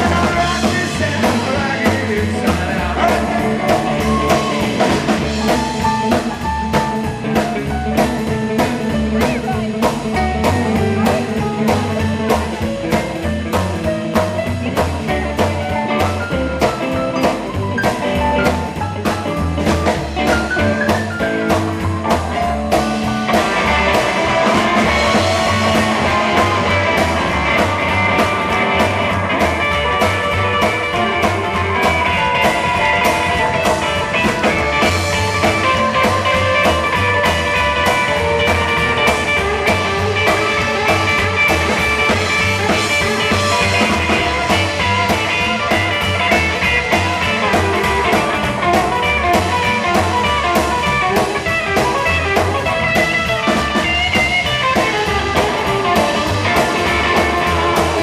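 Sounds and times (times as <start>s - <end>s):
drum kit beat: 0.0s - 58.0s
electric guitar: 0.0s - 58.0s
walking bass line: 0.0s - 58.0s.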